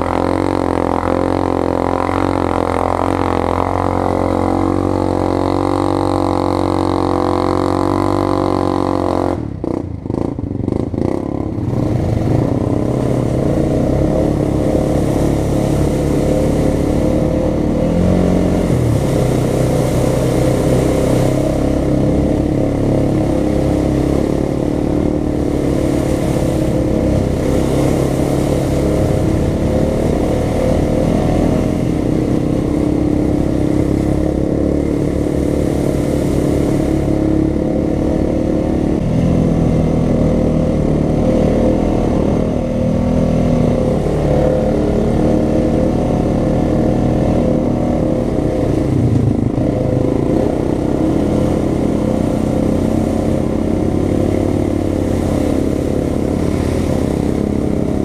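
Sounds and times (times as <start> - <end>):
atv engine running: 0.0 - 58.0
tyres splashing through water: 0.0 - 58.0.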